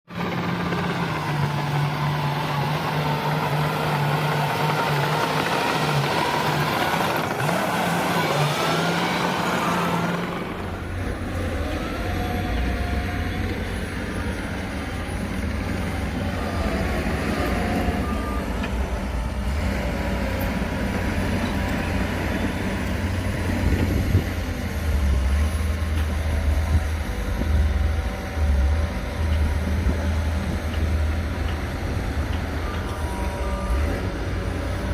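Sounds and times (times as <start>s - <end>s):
heavy diesel machinery running: 0.1s - 34.9s.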